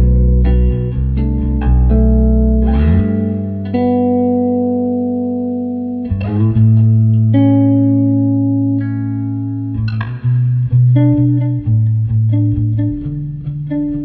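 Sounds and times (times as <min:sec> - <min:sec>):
electric bass chords ringing: 0:00.0 - 0:14.0.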